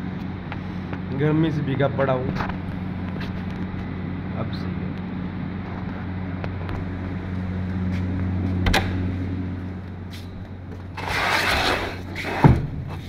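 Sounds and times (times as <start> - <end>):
electric hum of fans: 0.0 - 13.0.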